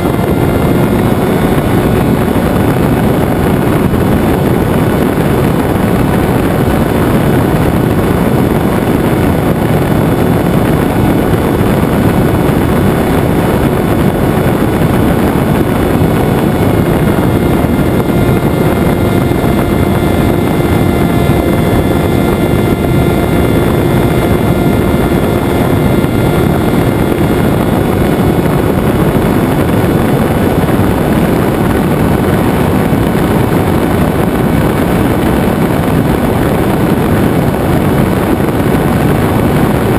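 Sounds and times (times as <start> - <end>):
electric motor and propeller hum: 0.0 - 39.9
wind rushing over microphone: 0.0 - 39.9.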